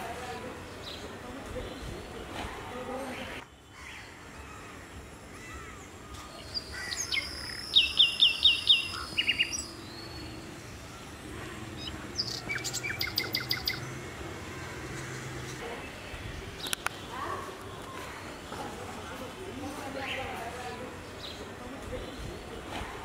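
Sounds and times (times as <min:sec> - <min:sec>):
open-field ambience: 0:00.0 - 0:23.0
small birds chirping: 0:00.2 - 0:23.0.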